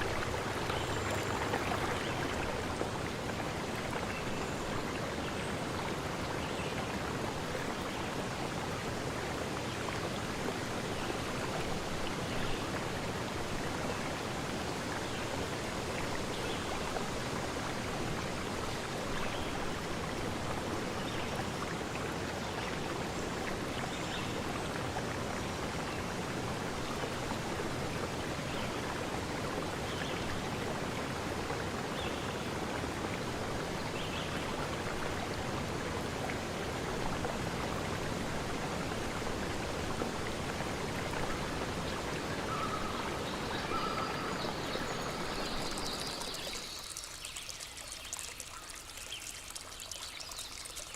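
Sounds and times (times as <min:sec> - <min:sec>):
stream water rushing: 0:00.0 - 0:50.9.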